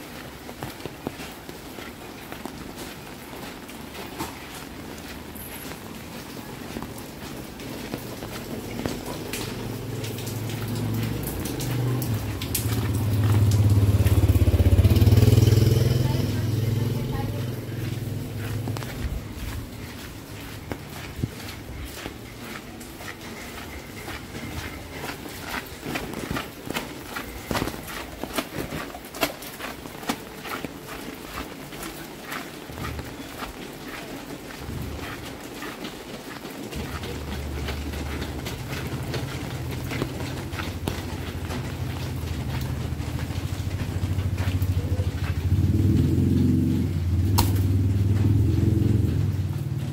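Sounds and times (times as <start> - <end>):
footsteps walking: 0.0 - 49.9
rain dripping and splashing: 0.0 - 49.9
motorcycle engine approaching: 7.3 - 49.9.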